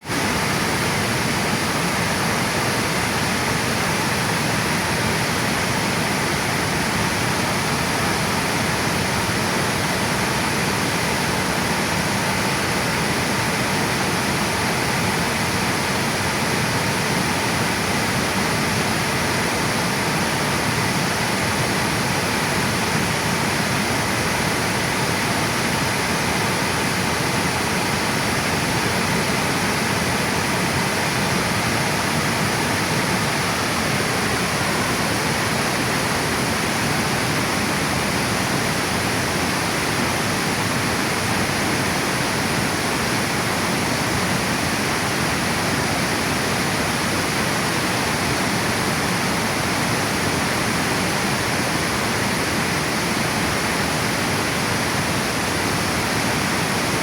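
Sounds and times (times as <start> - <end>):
water rushing over a dam: 0.0 - 57.0.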